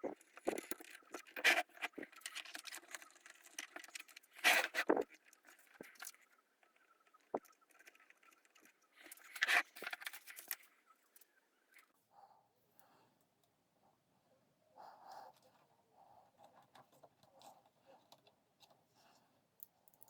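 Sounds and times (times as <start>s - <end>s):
rustling and light clicking: 0.0s - 12.0s, 14.9s - 20.0s.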